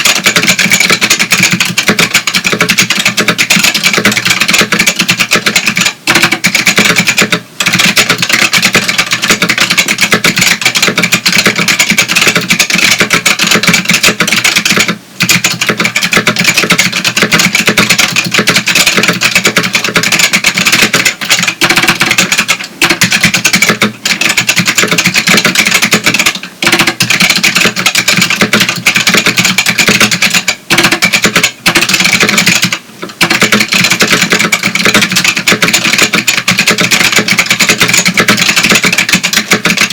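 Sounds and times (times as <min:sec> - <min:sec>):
fast clicky keyboard typing: 0:00.0 - 0:39.9.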